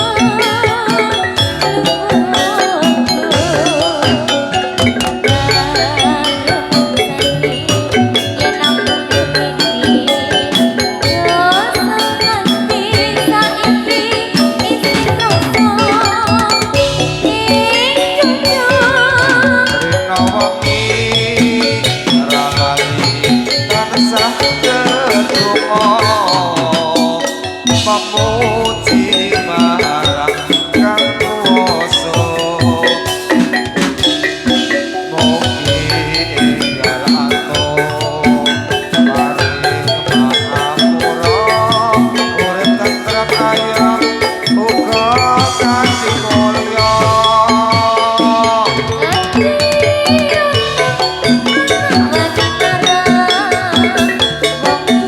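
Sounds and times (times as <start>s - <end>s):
drum strokes: 0.0s - 55.0s
gamelan music: 0.0s - 55.0s
ringing metallophone tones: 0.0s - 55.0s
wavering melody line: 0.0s - 55.0s.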